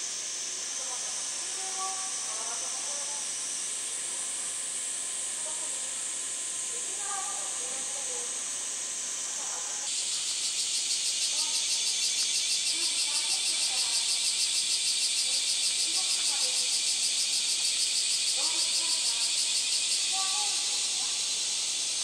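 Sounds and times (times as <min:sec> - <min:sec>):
cicadas chorus: 0:00.0 - 0:22.0.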